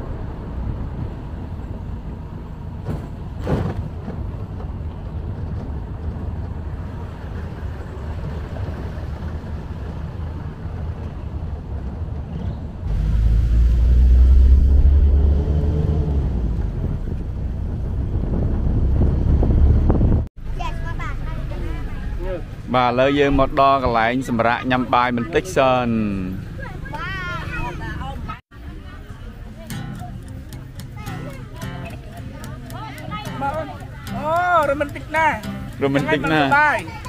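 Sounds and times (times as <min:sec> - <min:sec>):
vehicle engine and road rumble: 0:00.0 - 0:37.0.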